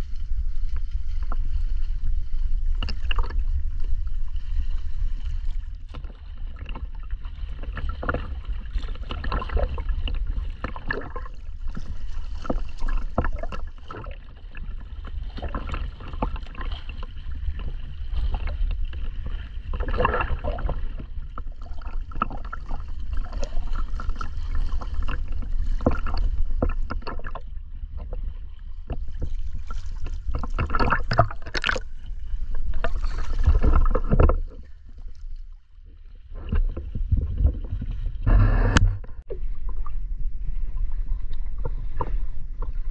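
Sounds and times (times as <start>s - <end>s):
steady low rumble: 0.0s - 7.5s, 8.4s - 42.9s
water splashing and sloshing: 0.0s - 42.9s.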